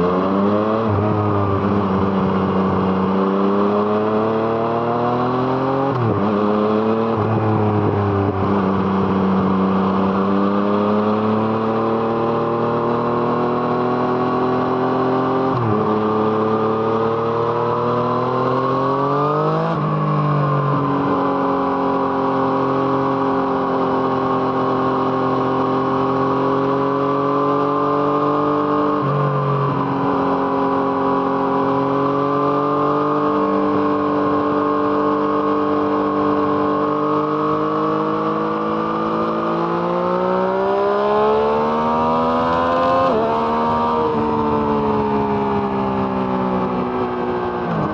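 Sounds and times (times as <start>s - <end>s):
motorcycle engine revving and shifting: 0.0s - 47.9s.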